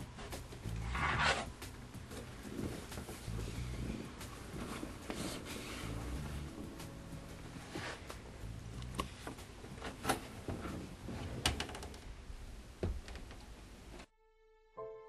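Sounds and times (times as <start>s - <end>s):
room noise: 0.0s - 14.1s.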